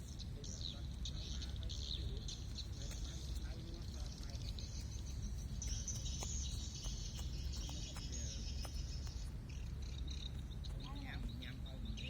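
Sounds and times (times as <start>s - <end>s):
insects and birds chirping: 0.0s - 12.0s.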